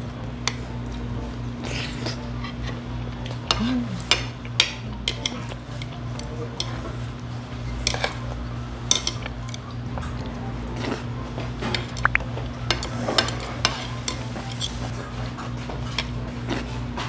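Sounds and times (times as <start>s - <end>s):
cutlery clinking and scraping plate: 1.7s - 10.2s, 10.8s - 17.0s.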